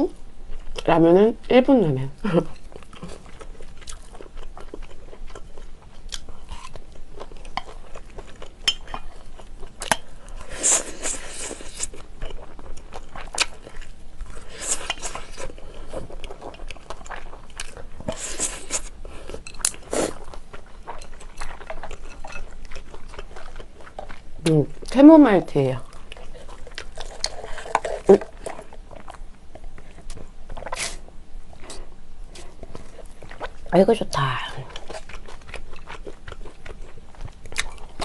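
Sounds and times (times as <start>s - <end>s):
chewing noodles: 2.4s - 25.0s, 25.8s - 33.7s, 34.5s - 38.0s.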